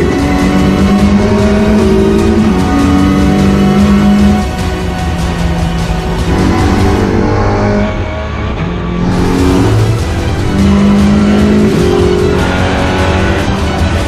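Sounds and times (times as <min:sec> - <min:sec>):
car engine running hard: 0:00.0 - 0:14.0
loud music playing: 0:00.0 - 0:14.0.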